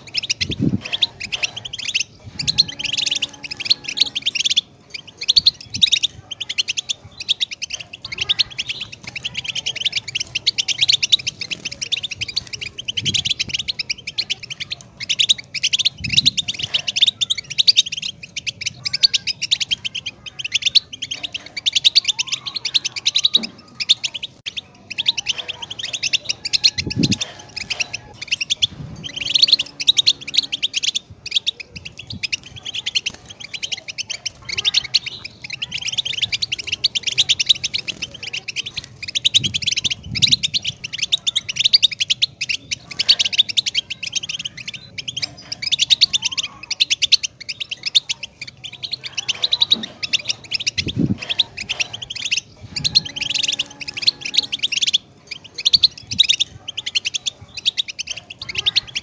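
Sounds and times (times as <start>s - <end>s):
goldfinch twittering song: 0.0s - 59.0s.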